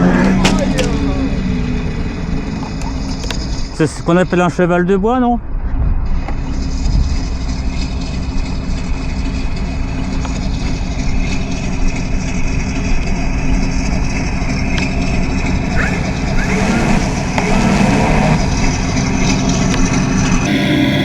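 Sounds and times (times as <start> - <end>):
engine idle sound effect: 0.0 - 4.6, 5.6 - 21.0
low rumble: 0.0 - 21.0.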